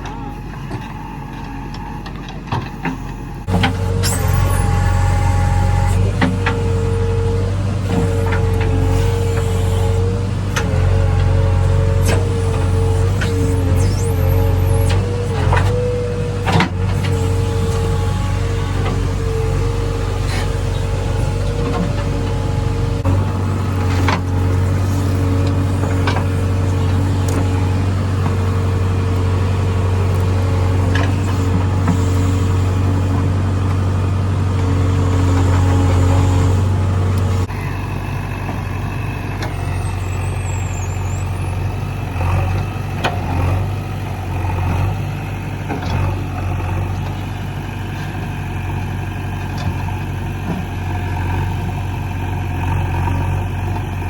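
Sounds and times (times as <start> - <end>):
diesel engine under hydraulic load: 0.0 - 54.0.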